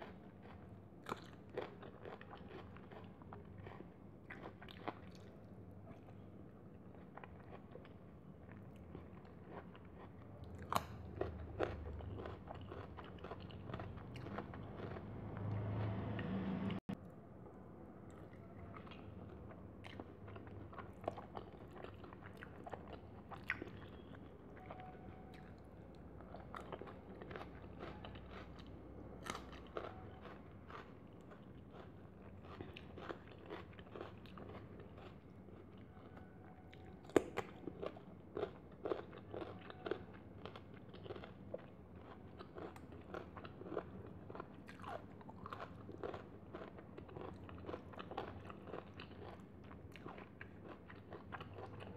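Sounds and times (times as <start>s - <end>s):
chewing: 0.0s - 16.4s, 18.1s - 51.9s.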